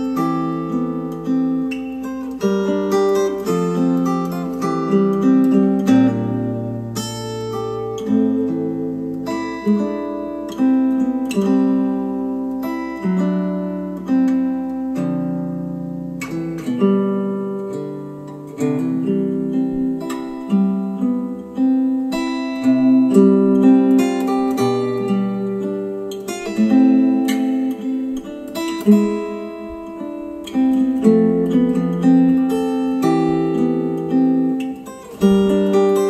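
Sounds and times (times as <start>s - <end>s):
acoustic guitar music over speakers: 0.0s - 36.0s.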